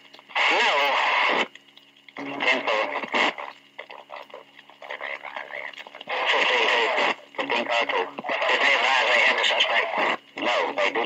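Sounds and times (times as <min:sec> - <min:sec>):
steady hum: 0:00.0 - 0:11.0
slowed garbled radio voices: 0:00.2 - 0:11.0.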